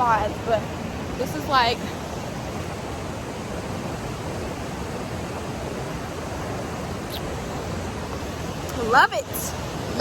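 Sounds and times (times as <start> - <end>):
water rushing at a dam: 0.0 - 10.0.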